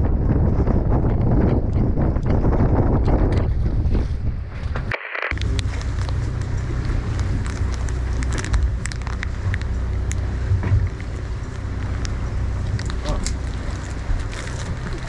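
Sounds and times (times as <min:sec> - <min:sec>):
boat engine low rumble: 0:00.0 - 0:15.0
wind buffeting microphone: 0:00.0 - 0:15.0.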